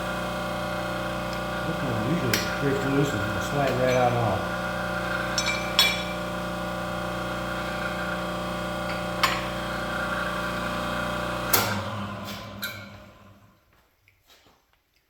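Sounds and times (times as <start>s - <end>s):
hydraulic pump motor humming: 0.0s - 13.6s.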